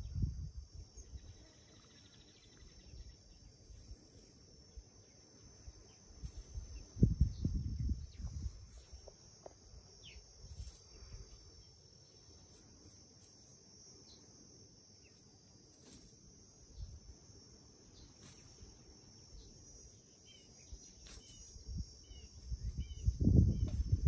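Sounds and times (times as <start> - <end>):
high-pitched insect drone: 0.0 - 24.0
short insect chirps: 0.0 - 24.0.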